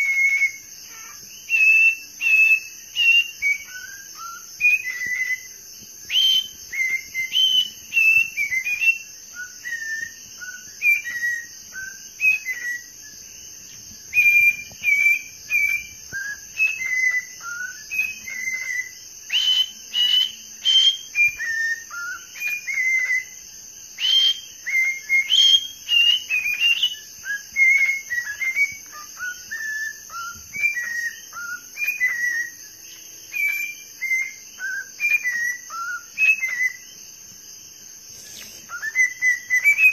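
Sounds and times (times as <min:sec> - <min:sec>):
bird chirping and whistling: 0:00.0 - 0:37.0, 0:38.0 - 0:39.9.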